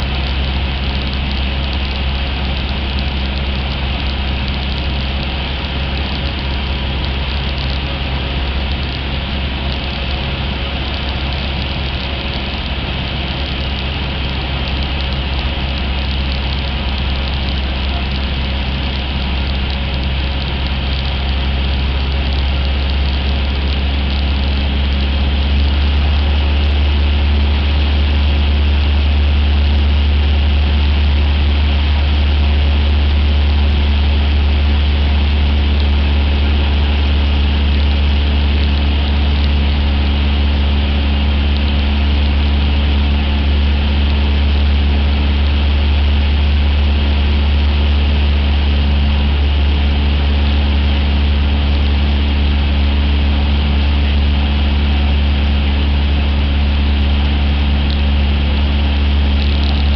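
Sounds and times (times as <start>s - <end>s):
airplane engine droning in cabin: 0.0s - 59.9s.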